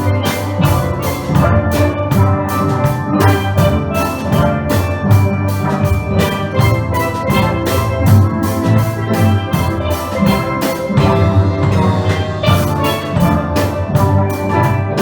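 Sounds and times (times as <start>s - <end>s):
steel band playing: 0.0s - 15.0s.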